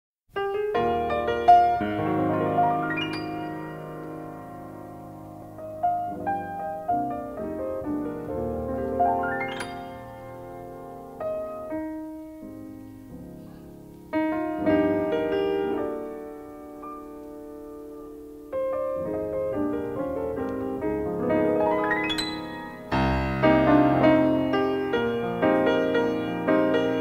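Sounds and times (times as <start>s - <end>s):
slow piano chords: 0.4s - 27.0s.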